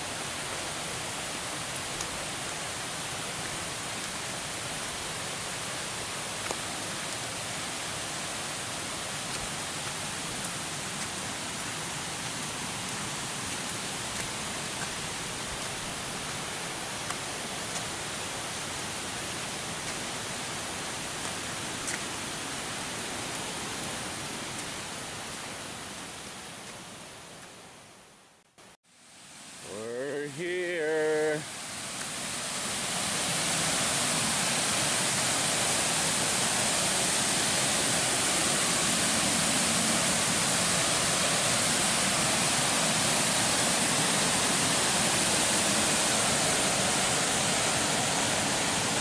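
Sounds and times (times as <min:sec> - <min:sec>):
waterfall rushing: 0:00.0 - 0:27.1, 0:29.1 - 0:49.0.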